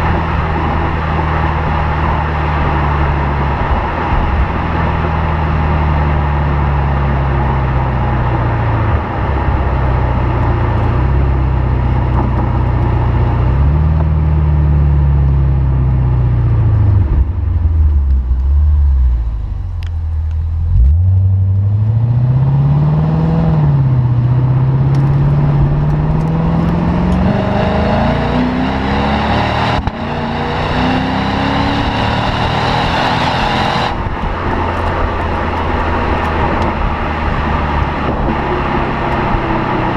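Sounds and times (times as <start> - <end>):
car engine exhaust revving: 0.0 - 39.9.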